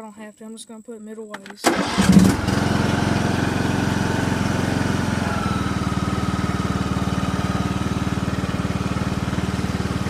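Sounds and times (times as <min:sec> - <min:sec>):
lawn mower engine running: 0:01.6 - 0:10.0.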